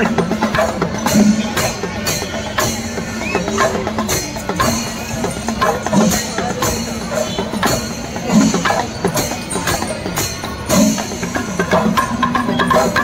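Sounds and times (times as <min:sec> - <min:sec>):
hand cymbals clashing: 0:00.0 - 0:13.0
rapid drumming: 0:00.0 - 0:13.0.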